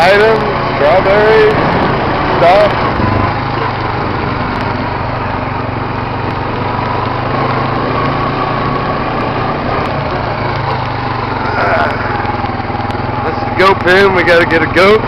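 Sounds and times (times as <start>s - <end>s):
small atv engine running: 0.0s - 15.0s.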